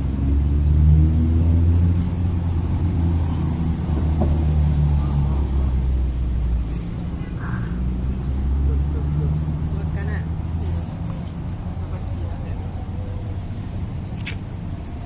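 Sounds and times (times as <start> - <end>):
engine running at low pitch: 0.0 - 15.0.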